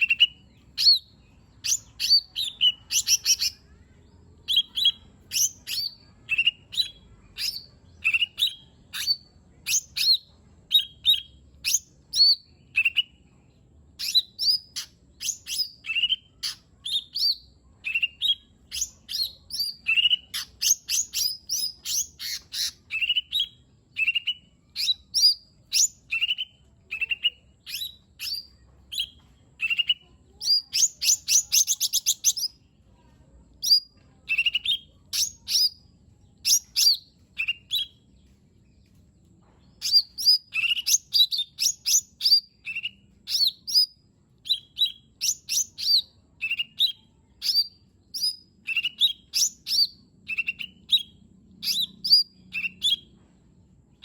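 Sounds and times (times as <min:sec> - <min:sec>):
small bird singing whistled notes: 0:00.0 - 0:13.3, 0:14.0 - 0:32.6, 0:33.6 - 0:39.0, 0:39.8 - 0:53.2.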